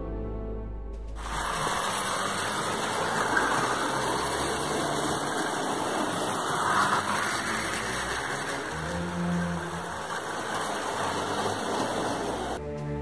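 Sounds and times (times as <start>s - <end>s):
toy train motor whirring: 1.2s - 12.6s
train cars rolling on rails: 1.2s - 12.6s.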